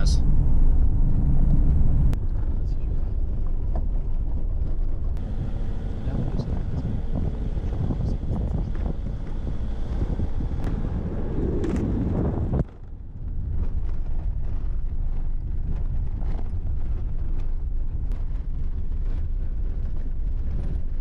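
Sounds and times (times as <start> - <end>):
engine and tyres on gravel: 0.0 - 21.0
wind buffeting microphone: 0.0 - 21.0.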